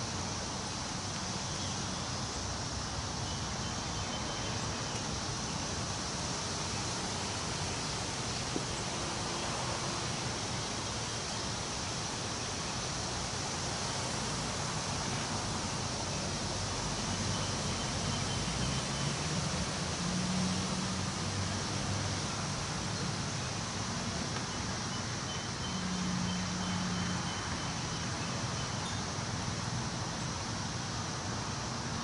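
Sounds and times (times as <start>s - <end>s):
wind rustling tree leaves: 0.0s - 32.0s.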